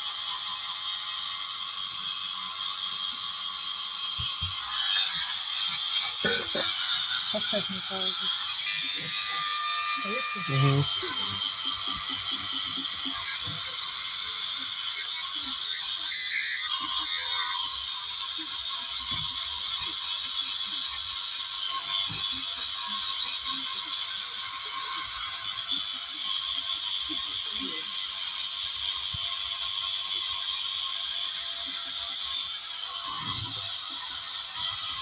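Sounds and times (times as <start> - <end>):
high-pitched mechanical whirring: 0.0 - 35.0.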